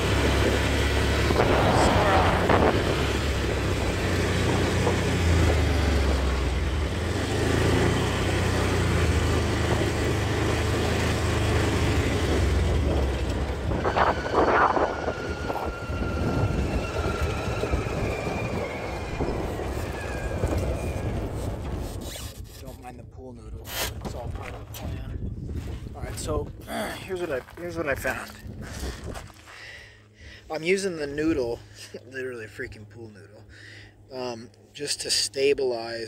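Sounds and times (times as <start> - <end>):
small vehicle engine humming: 0.0 - 22.4, 27.8 - 35.9.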